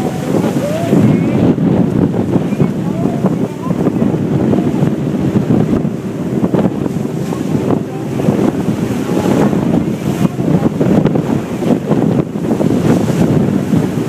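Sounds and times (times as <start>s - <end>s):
boat engine running: 0.0s - 14.0s
waves rushing against hull: 0.0s - 14.0s
wind buffeting microphone: 0.0s - 14.0s.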